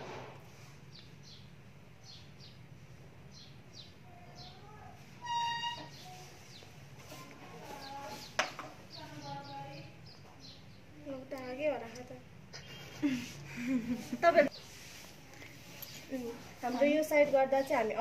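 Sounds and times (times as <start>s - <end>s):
small birds chirping: 0.6s - 18.0s.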